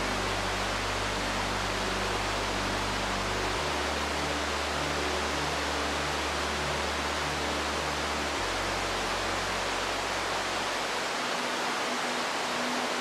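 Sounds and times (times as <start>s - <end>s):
low music drone: 0.0s - 13.0s
waterfall and rapids rushing: 0.0s - 13.0s.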